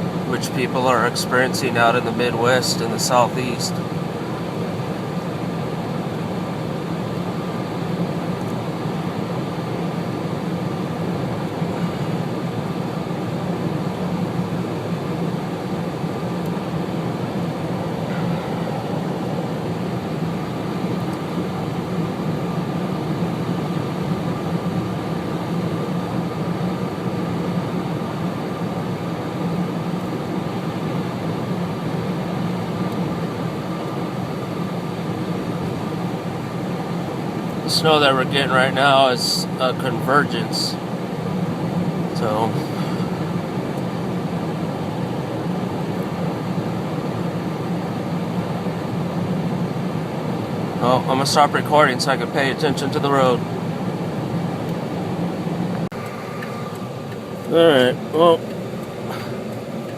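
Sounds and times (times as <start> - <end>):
car road and engine noise: 0.0 - 59.9
faint steady whine: 0.0 - 59.9.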